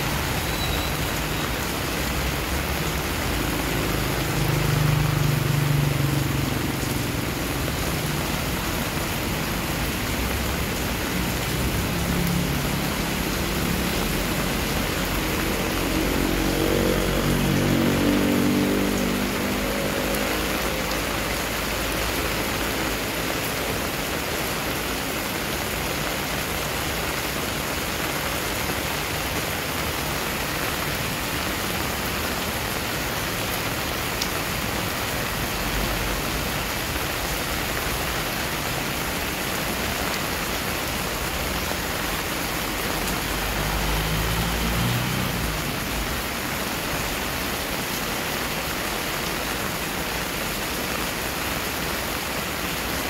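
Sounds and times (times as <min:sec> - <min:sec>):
heavy rain splashing on pavement: 0:00.0 - 0:53.0.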